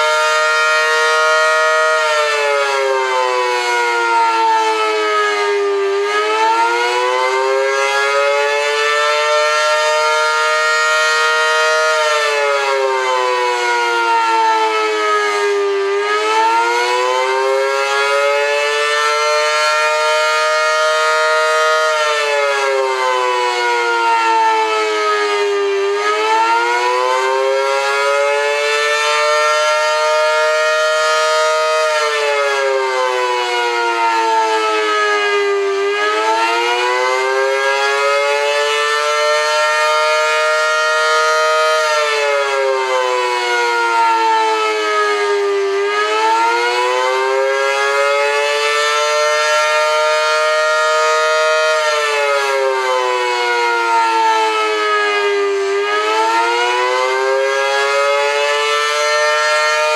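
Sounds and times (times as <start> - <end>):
mechanical warning siren wavering: 0.0 - 59.9.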